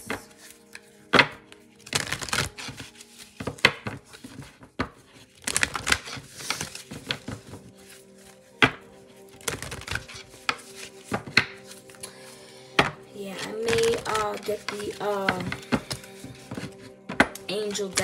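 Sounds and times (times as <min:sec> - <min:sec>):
cards being shuffled: 0:00.0 - 0:18.0.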